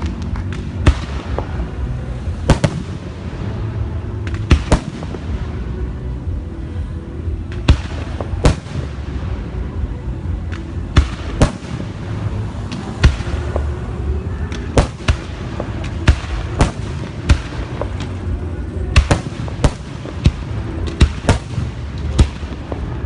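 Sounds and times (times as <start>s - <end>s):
fireworks bangs: 0.0s - 5.8s, 7.4s - 9.6s, 10.4s - 23.0s
continuous low rumble: 0.0s - 23.0s.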